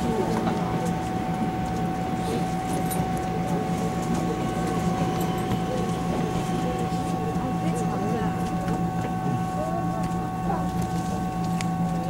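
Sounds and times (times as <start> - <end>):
train rumble with electric whine: 0.0 - 12.0.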